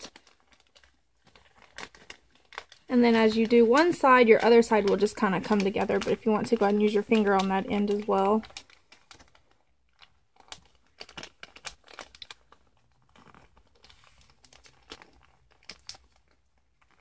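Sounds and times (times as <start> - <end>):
foil wrapping paper crinkling: 0.0 - 17.0.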